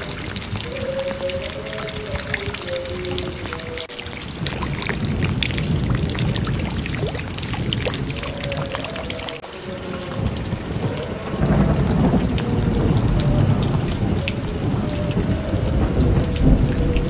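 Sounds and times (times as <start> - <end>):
heavy rain streaming off roof: 0.0 - 17.0
water pouring into a full basin: 0.0 - 17.0.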